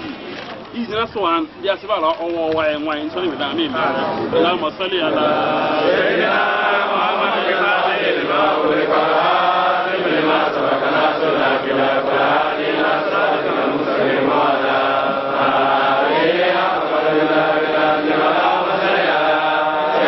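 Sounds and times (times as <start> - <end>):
crowd of men chanting: 3.6 - 20.0.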